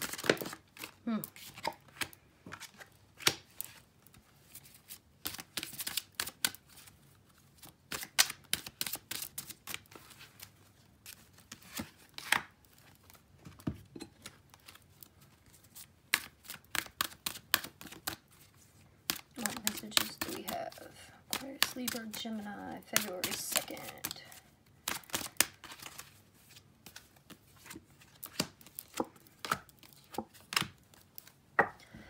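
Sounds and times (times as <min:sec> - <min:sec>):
cards shuffling: 0:00.0 - 0:07.0, 0:07.6 - 0:31.4.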